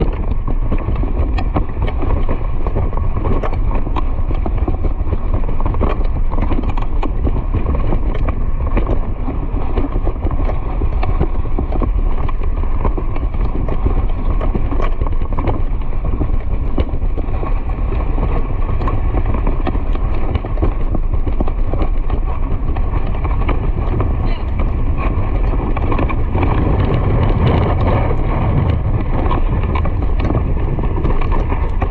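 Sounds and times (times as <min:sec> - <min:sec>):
wind rushing on microphone: 0:00.0 - 0:31.9.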